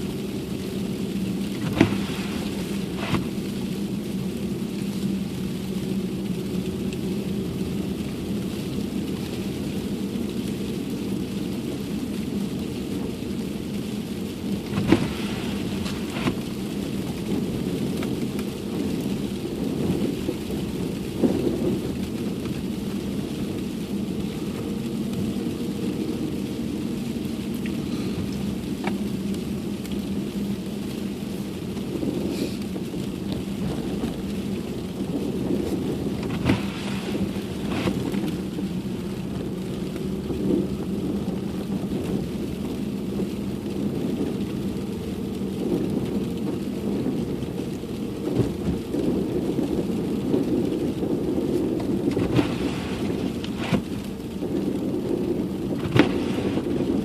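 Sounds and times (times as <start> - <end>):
car cabin rumble and hum: 0.0 - 57.0.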